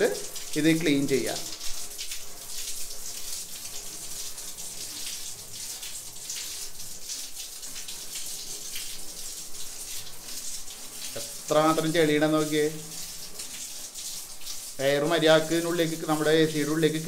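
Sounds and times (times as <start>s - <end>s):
water spray hissing on filter: 0.0s - 17.0s.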